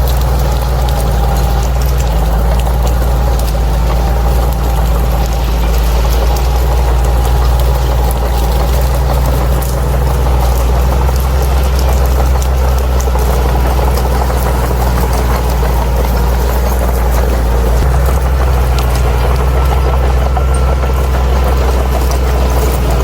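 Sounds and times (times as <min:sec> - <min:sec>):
bulldozer diesel engine drone: 0:00.0 - 0:23.0.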